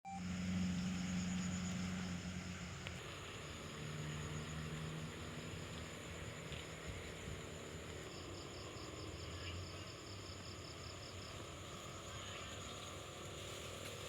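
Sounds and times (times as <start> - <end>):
insects chirping: 0.1 - 14.0.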